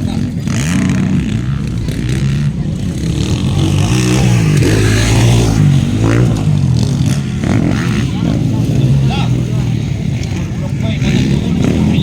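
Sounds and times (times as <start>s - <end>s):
motocross bikes revving: 0.0s - 12.0s.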